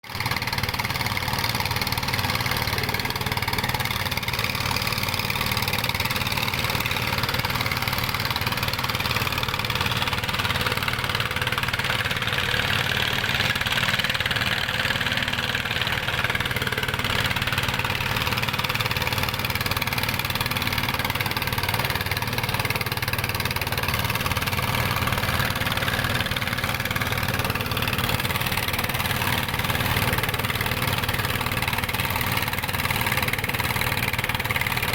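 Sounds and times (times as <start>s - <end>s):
single-cylinder diesel engine knocking: 0.1s - 34.9s.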